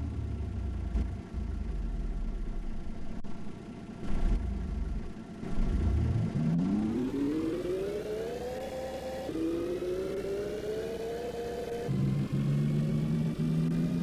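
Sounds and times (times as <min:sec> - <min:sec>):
bus engine rumble: 0:00.0 - 0:14.0
bus engine whine rising: 0:00.0 - 0:14.0.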